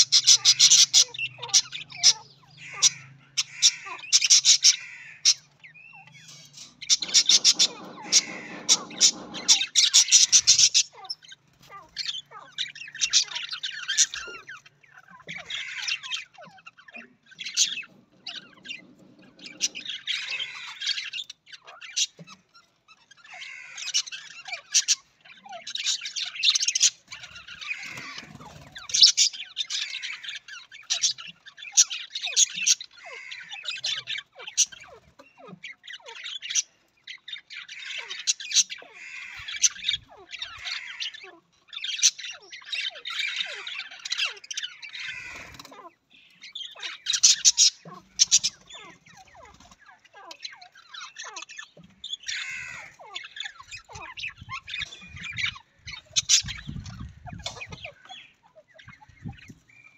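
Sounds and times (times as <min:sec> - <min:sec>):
budgerigars chattering and chirping: 0:00.0 - 0:59.9.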